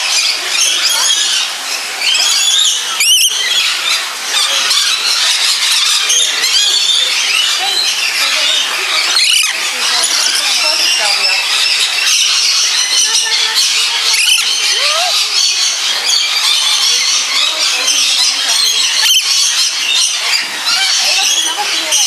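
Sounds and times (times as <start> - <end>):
parrots screeching and chattering: 0.0 - 22.0.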